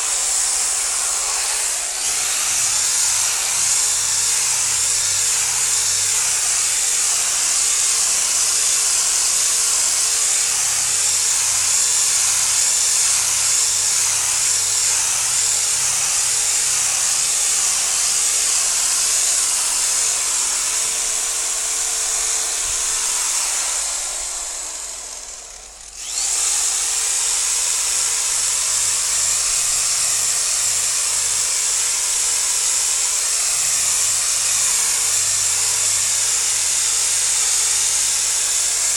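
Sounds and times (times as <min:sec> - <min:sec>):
electric polisher whirring: 0:00.0 - 0:38.9.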